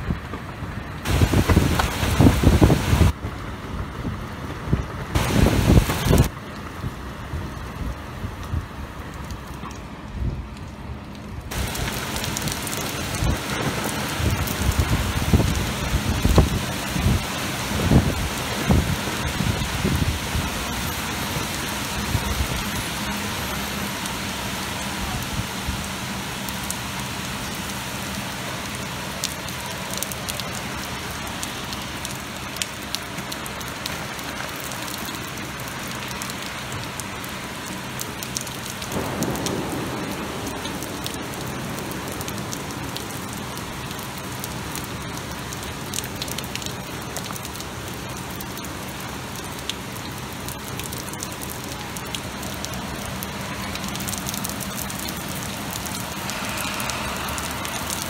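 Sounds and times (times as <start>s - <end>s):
heavy rain pouring: 0.0s - 58.0s
raindrops ticking nearby: 0.0s - 58.0s.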